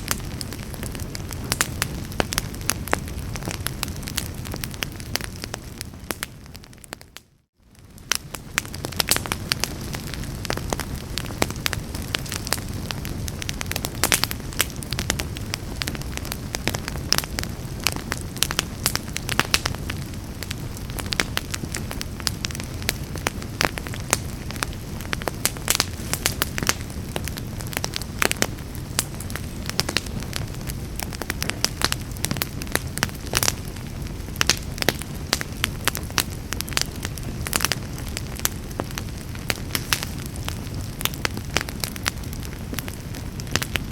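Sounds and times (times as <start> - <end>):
fire crackling and popping: 0.0 - 43.9
fire flames rushing: 0.0 - 43.9.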